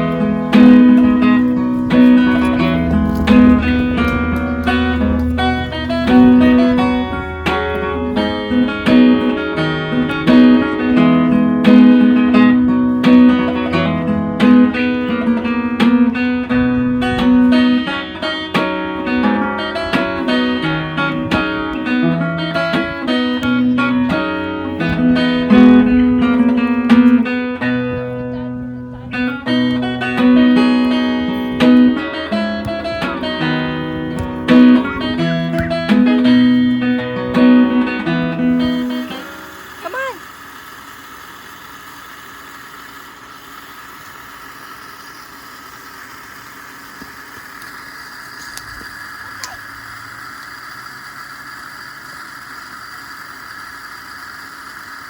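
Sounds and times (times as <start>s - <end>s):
acoustic guitar music: 0.0s - 51.0s.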